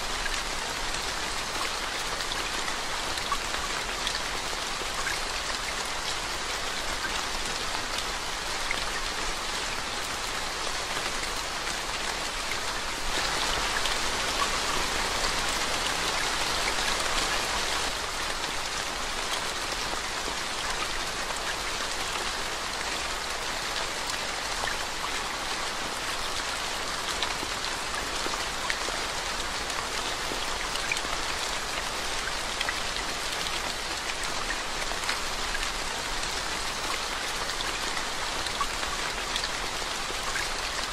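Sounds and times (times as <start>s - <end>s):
rain falling into water and leaves: 0.0s - 40.9s.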